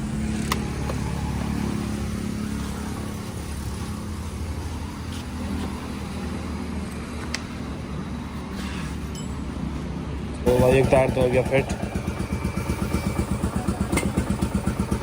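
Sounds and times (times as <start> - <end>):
engine idling: 0.0 - 8.2, 10.2 - 15.0.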